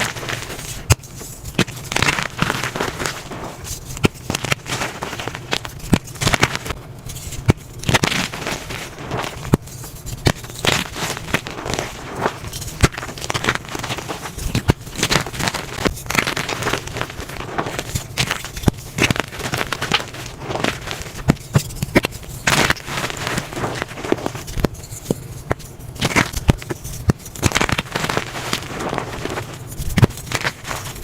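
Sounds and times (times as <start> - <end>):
chalk being crushed: 0.0 - 31.0.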